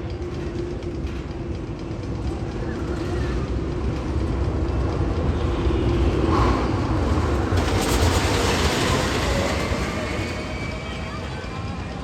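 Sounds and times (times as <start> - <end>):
roller coaster train rumbling: 0.0 - 12.0.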